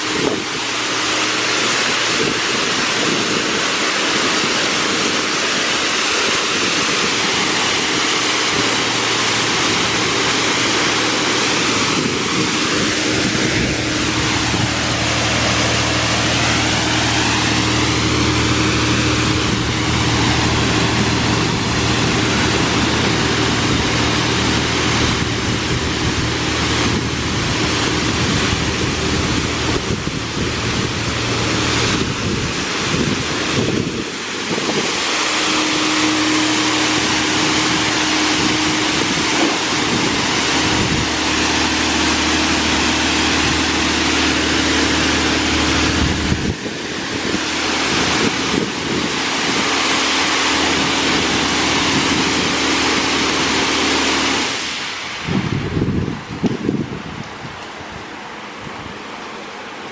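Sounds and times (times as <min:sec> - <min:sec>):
car wash water spraying: 0:00.0 - 0:59.9
low motor hum: 0:00.0 - 0:59.9.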